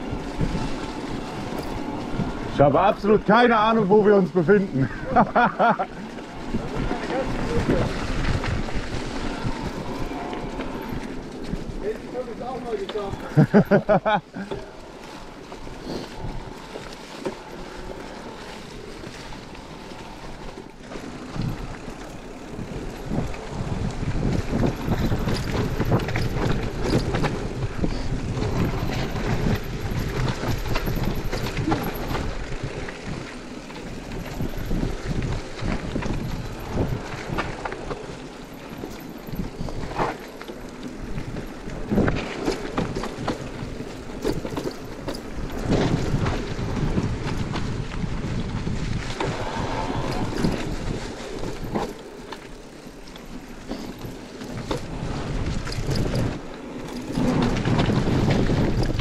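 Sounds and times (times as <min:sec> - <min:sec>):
bike rattling over bumps: 0:00.0 - 0:59.0
bike tyres rolling over dry leaves: 0:00.0 - 0:59.0.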